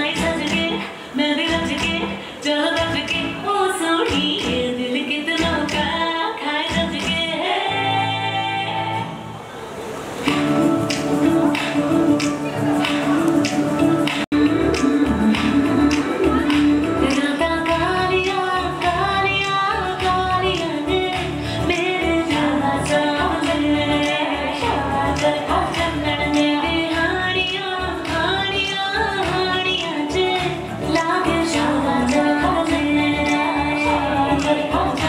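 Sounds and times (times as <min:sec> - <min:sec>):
woman singing over a beat: 0:00.0 - 0:09.2, 0:10.3 - 0:35.0.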